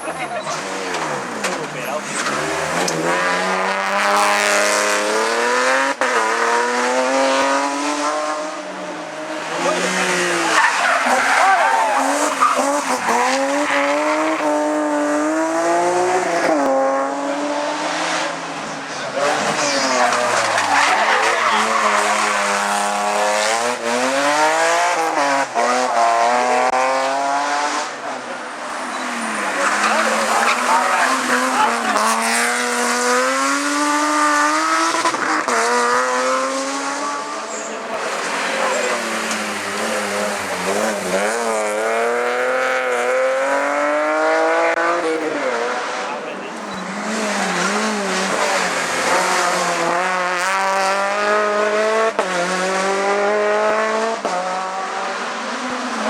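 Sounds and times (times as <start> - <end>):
race car engine at full throttle: 0.0 - 56.0.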